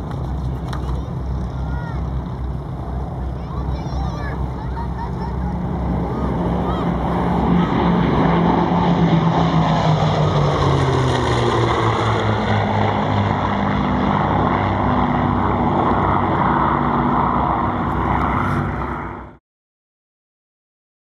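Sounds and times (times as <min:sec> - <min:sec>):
propeller planes droning past: 0:00.0 - 0:19.4.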